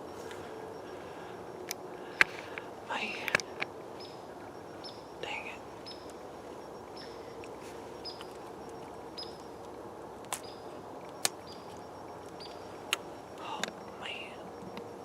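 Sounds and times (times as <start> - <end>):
sharp clicks: 0.0 - 5.1, 5.8 - 15.0.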